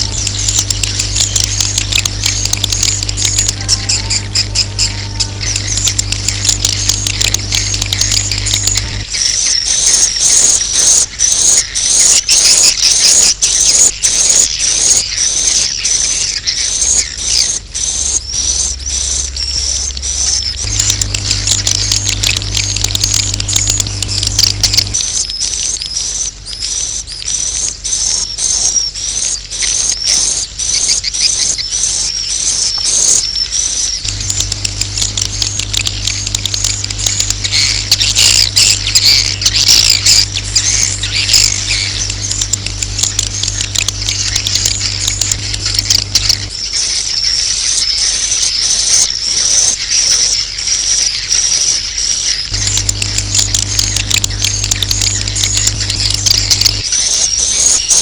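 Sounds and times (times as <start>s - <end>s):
birds twittering rapidly: 0.0s - 58.0s
low electrical hum: 0.0s - 58.0s.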